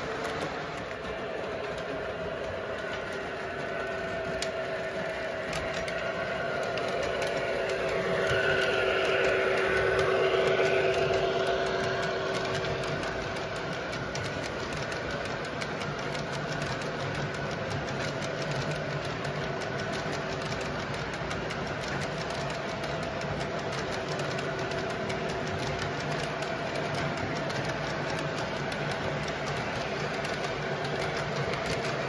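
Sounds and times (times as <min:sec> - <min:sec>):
electronic diesel engine sound: 0:00.0 - 0:32.0
model train cars rumbling: 0:00.0 - 0:32.0
model train wheels clicking: 0:00.0 - 0:32.0.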